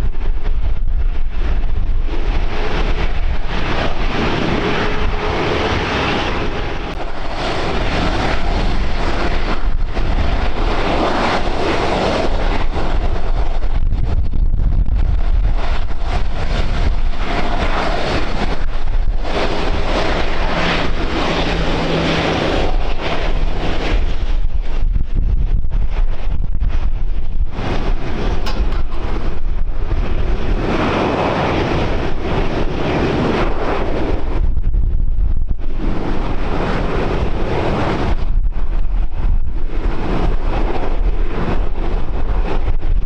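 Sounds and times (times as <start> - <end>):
airliner engines running: 0.0 - 43.0
wind buffeting microphone: 0.0 - 43.0.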